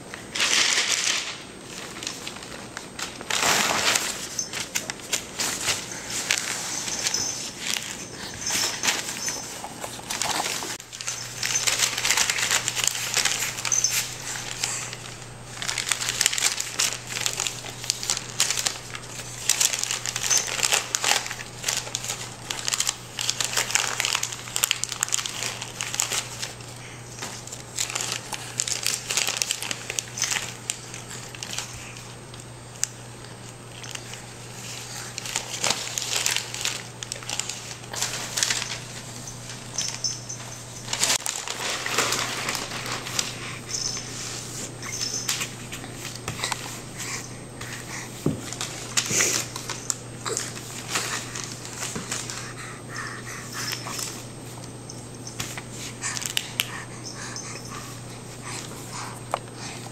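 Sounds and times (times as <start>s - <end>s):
paper flyers crinkling: 0.1s - 59.8s.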